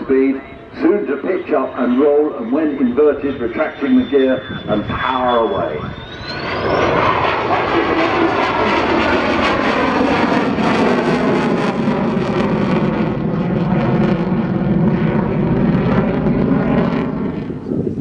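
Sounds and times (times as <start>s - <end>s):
aircraft engines at high power: 0.0s - 18.0s
high engine whine: 0.0s - 18.0s.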